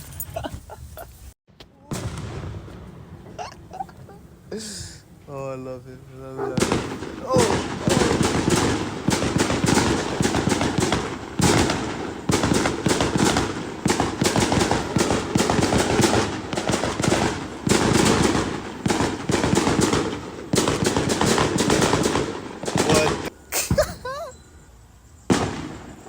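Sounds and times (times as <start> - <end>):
firecrackers popping: 0.0 - 24.4, 25.2 - 26.0.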